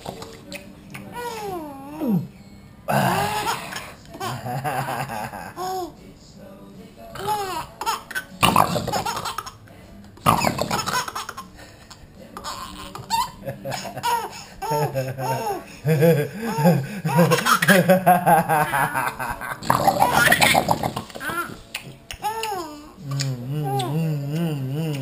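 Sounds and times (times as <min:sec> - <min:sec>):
baby laughing: 0:01.1 - 0:02.1, 0:02.9 - 0:06.0, 0:07.2 - 0:09.6, 0:10.3 - 0:24.0.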